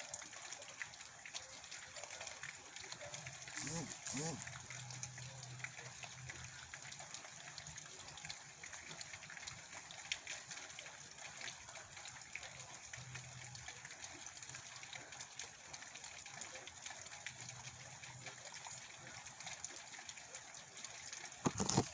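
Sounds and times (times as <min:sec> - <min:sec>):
raindrops ticking on a surface: 0:00.0 - 0:03.6, 0:04.4 - 0:21.9.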